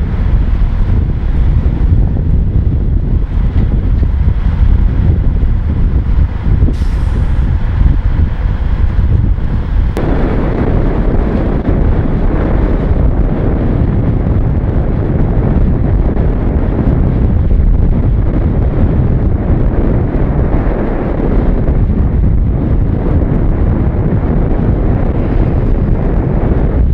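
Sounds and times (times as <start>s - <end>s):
diesel truck engine running: 0.0s - 26.6s
wind buffeting microphone: 0.0s - 26.9s.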